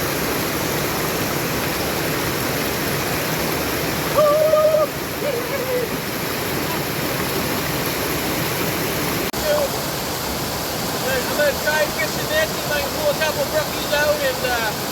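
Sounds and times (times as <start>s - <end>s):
brook water flowing: 0.0s - 14.9s.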